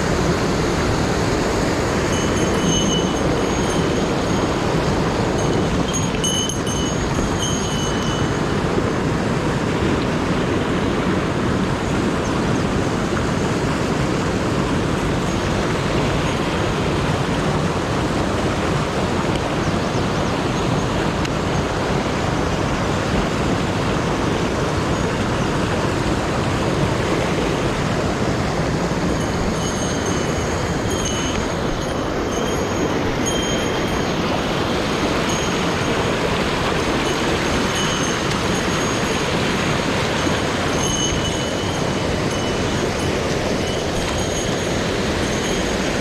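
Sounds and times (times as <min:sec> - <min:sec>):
stream rushing over rocks: 0:00.0 - 0:46.0.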